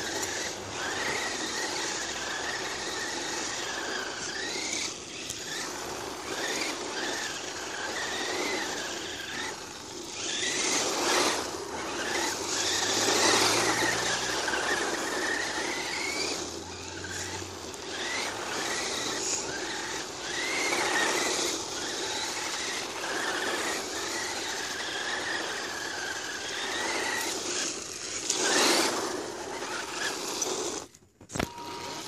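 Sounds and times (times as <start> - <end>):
tyres scrubbing through sand: 0.0 - 31.0
electric toy truck motor whining: 0.0 - 32.0.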